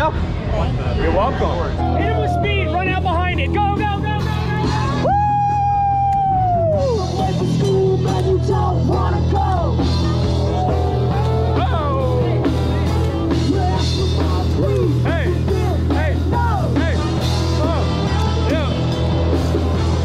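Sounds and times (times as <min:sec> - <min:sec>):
rock band playing: 0:01.8 - 0:20.0.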